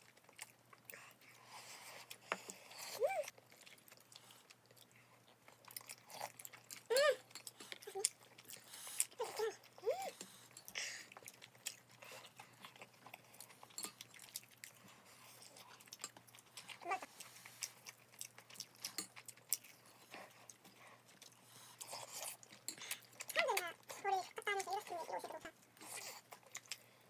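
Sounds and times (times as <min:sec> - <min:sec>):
person chewing: 0:00.0 - 0:27.0.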